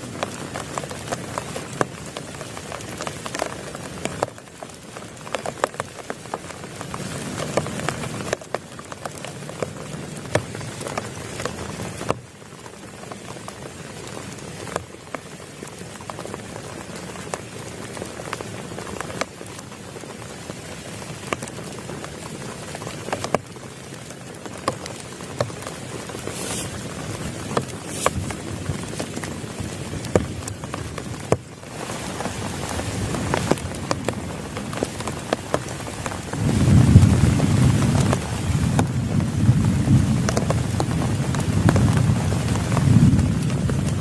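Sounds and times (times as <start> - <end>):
heavy rain falling: 0.0 - 44.0
raindrops ticking on a surface: 0.0 - 44.0.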